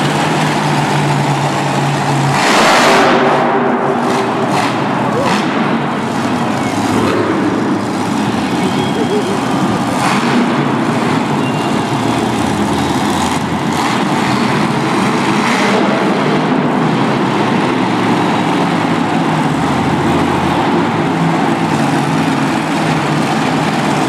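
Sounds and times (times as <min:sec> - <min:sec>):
monster truck engine roaring: 0:00.0 - 0:24.0.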